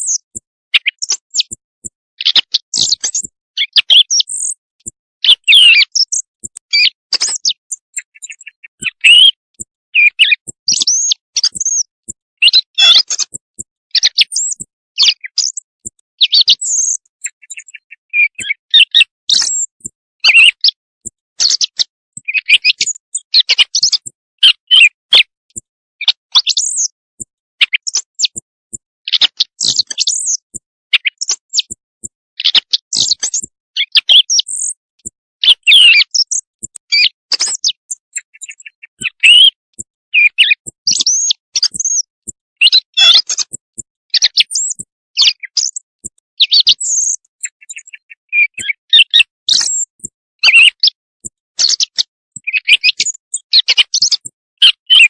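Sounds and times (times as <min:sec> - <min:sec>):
recorded quail chirps: 0:00.0 - 0:55.0.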